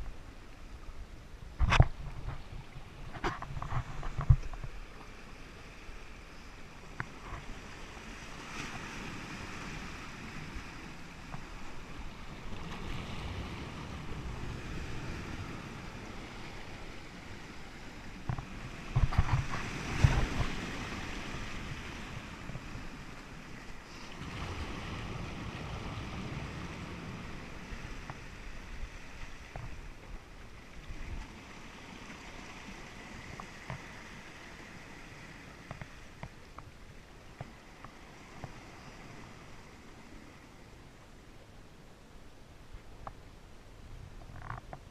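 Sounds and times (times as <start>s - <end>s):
wind rumbling on microphone: 0.0s - 40.9s, 42.2s - 44.9s
sea surging through rocky channel: 0.0s - 44.9s.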